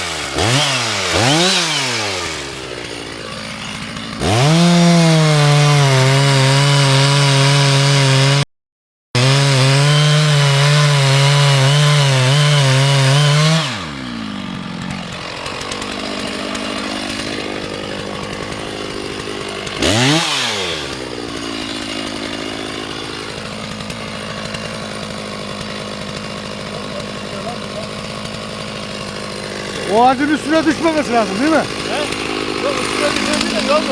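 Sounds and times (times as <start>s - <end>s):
chainsaw cutting wood: 0.0s - 8.5s, 9.2s - 33.9s.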